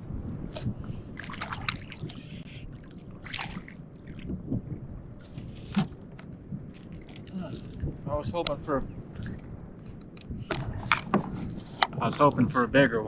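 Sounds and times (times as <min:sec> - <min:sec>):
wind on microphone: 0:00.0 - 0:13.0
water lapping at hull: 0:00.2 - 0:12.8.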